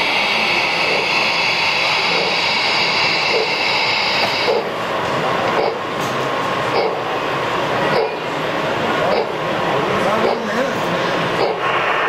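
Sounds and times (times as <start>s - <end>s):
model steam locomotive hissing: 0.0s - 12.0s.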